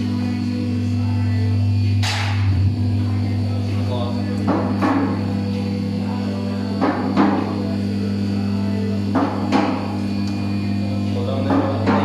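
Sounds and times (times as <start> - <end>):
low bass drone: 0.0 - 12.0.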